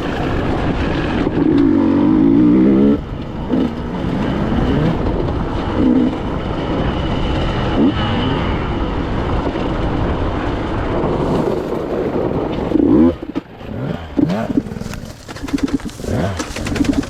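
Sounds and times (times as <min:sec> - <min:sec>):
two-stroke motorcycle engine revving: 0:00.0 - 0:10.0, 0:12.2 - 0:17.0.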